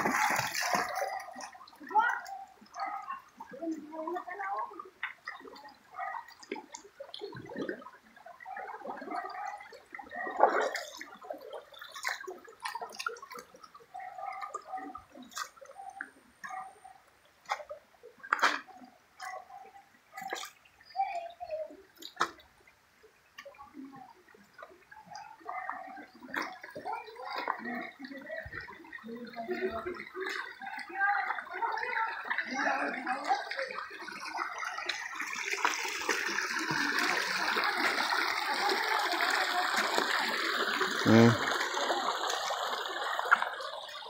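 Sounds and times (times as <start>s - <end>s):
stream trickling over rocks: 0.0s - 44.0s.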